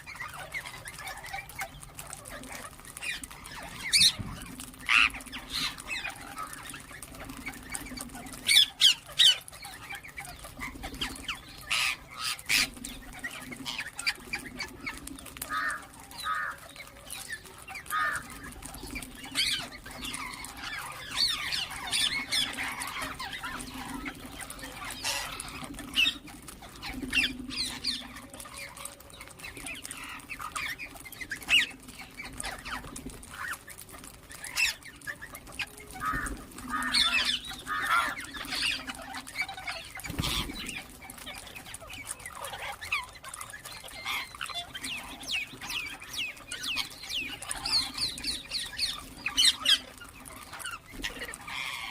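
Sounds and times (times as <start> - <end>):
parakeets screeching and chirping: 0.0 - 51.9.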